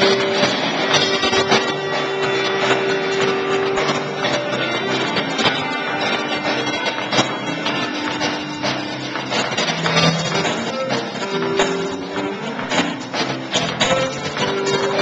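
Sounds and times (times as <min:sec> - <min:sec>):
guitar: 0:00.0 - 0:15.0
live band playing loud music: 0:00.0 - 0:15.0
percussion hits: 0:00.0 - 0:15.0.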